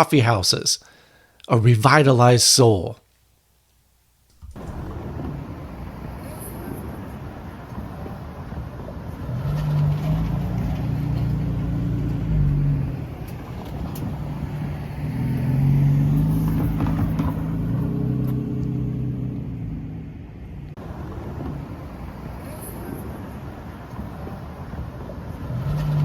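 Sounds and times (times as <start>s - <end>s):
vehicle engine pulling away: 4.5s - 26.0s.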